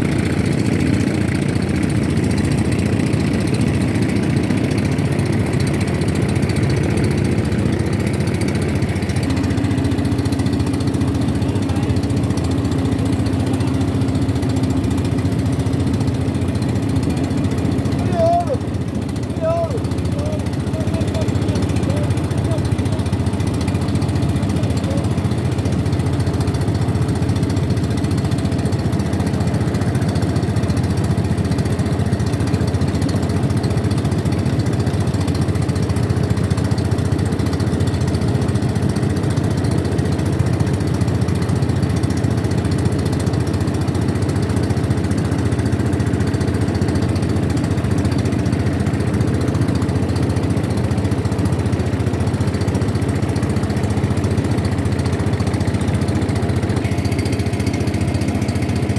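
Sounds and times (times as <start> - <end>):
motorboat engine running: 0.0 - 58.9.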